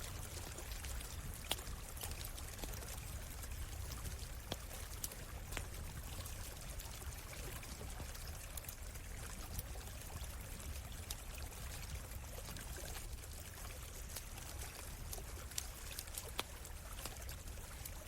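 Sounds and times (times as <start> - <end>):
stream running: 0.0 - 18.0
campfire crackling and popping: 0.1 - 9.8, 10.7 - 18.0.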